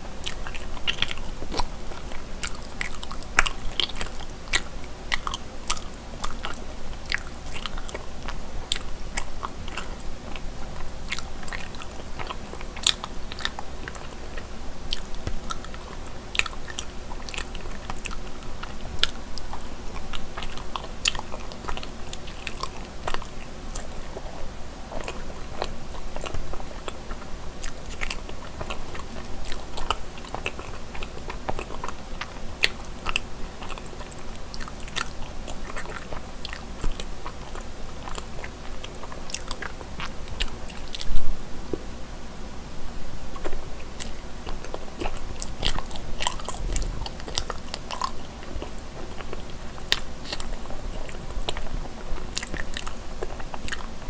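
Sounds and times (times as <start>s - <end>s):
chewing sticky rice cake: 0.0s - 41.9s, 43.3s - 54.0s
faint steady hum: 0.0s - 54.0s.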